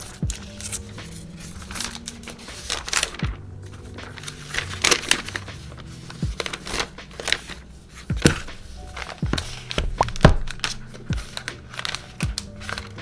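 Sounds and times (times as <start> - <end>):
plastic wrap crinkling: 0.0 - 13.0
soft background music: 0.0 - 13.0.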